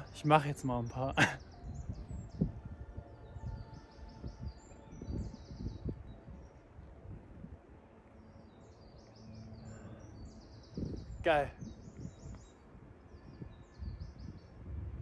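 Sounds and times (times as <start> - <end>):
songbird singing high notes: 0.0 - 7.5, 8.1 - 14.8
low microphone rumble: 0.8 - 8.8, 9.5 - 15.0.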